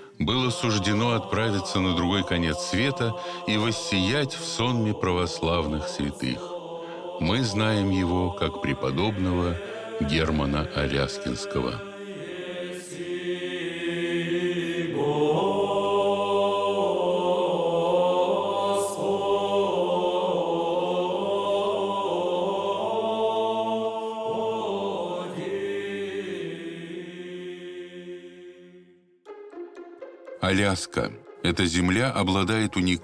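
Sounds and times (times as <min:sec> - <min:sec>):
choir singing slow chant: 0:00.0 - 0:31.9.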